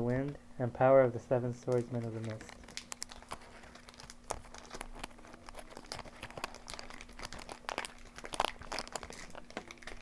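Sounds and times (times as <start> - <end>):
faint steady hum: 0.0 - 10.0
foil wrapper crinkling: 1.7 - 10.0.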